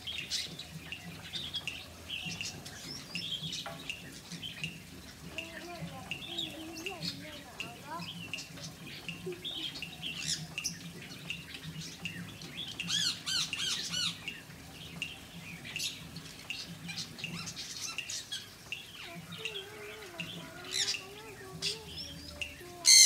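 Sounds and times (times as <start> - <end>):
birds chirping and squawking: 0.0 - 23.0.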